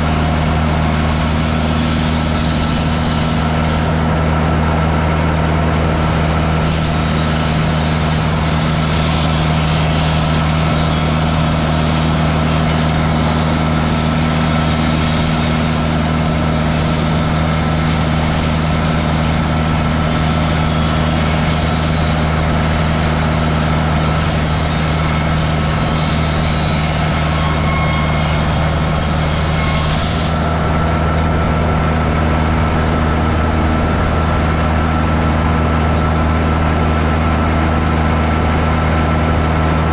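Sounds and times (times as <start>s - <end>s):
band blade sawing log: 0.0s - 39.9s
sawmill engine droning: 0.0s - 39.9s.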